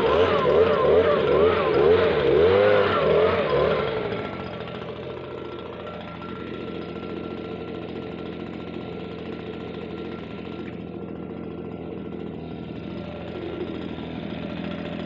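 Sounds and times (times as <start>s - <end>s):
leaf blower engine idling: 0.0s - 15.0s.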